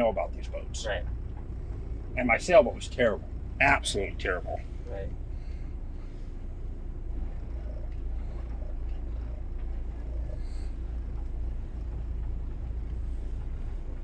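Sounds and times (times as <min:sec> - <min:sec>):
boat diesel engines rumbling: 0:00.0 - 0:14.0.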